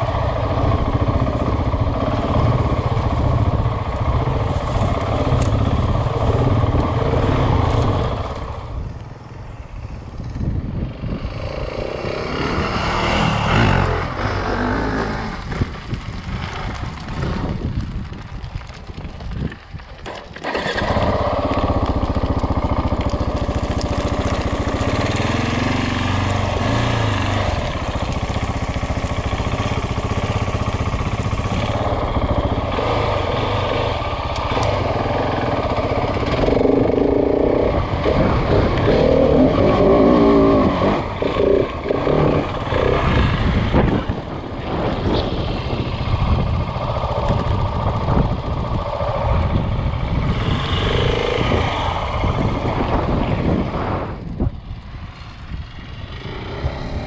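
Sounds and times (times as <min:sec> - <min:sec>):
motorcycle engine revving: 0:00.0 - 0:09.4, 0:10.2 - 0:17.8, 0:20.1 - 0:57.0.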